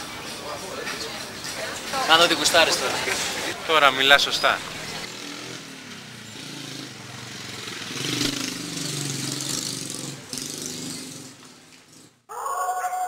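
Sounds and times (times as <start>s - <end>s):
vehicle engine passing by: 1.6s - 12.3s.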